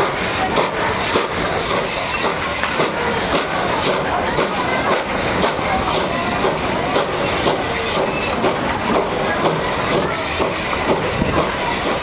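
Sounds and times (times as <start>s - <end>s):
steady steam hiss: 0.0s - 12.0s
train wheels clicking over rails: 0.0s - 12.0s.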